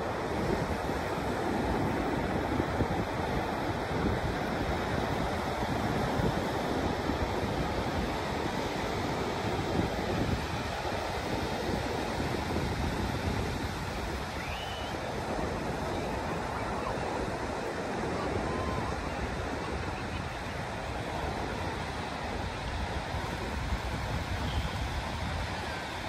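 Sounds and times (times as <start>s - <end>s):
ocean surf breaking: 0.0s - 26.0s
wind rumbling on microphone: 0.0s - 26.0s.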